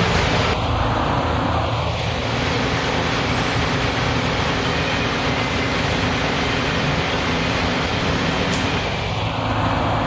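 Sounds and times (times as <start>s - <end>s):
traffic noise: 0.0s - 10.0s
vehicle engine drone: 0.0s - 10.0s.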